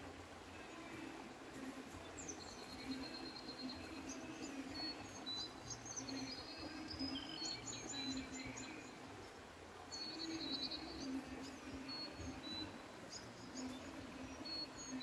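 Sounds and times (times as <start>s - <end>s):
low outdoor background: 0.0s - 15.0s
songbirds chirping: 0.0s - 15.0s.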